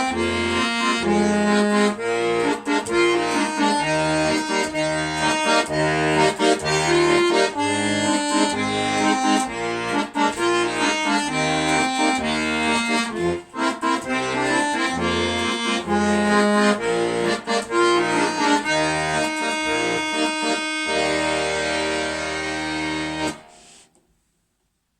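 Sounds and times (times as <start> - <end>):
solo instrumental music: 0.0 - 23.8.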